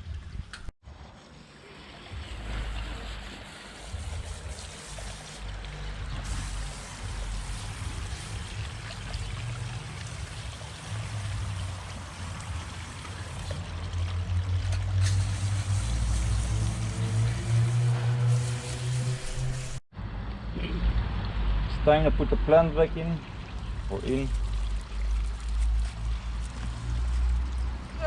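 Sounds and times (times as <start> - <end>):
water trickling into a pond: 0.9 - 19.8, 23.0 - 28.0.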